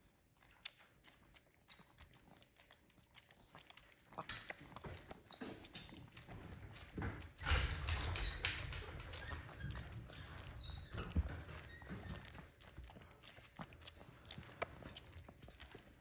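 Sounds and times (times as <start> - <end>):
monkeys sucking bottles: 0.0 - 16.0.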